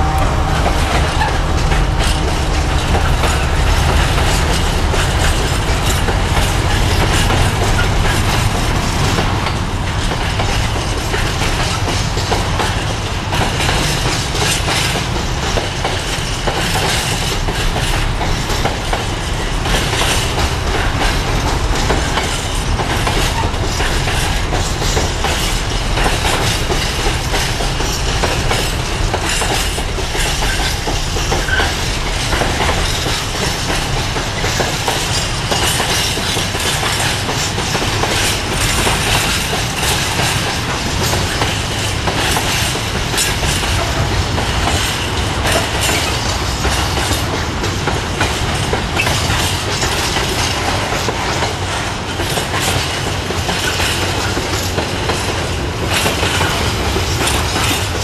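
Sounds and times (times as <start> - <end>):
train wheels clattering over rail joints: 0.0 - 58.0.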